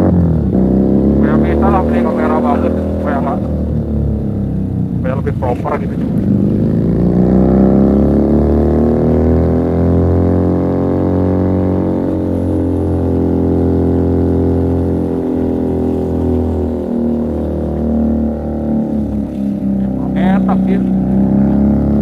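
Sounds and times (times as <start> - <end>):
motorcycle engine revving and droning: 0.0 - 22.0.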